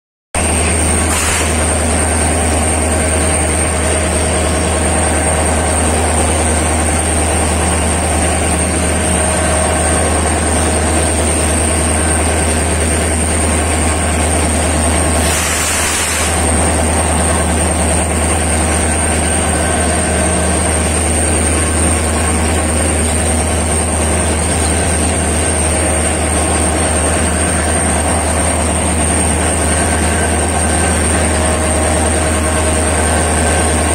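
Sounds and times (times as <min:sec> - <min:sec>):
locomotive engine hum: 0:00.4 - 0:33.9
rush of noise: 0:00.4 - 0:33.9
thin high whine: 0:00.4 - 0:33.9.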